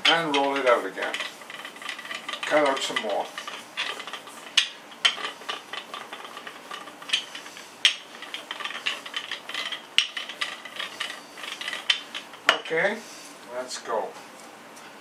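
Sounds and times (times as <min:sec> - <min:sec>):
rolling pin rolling dough: 0:00.0 - 0:12.6.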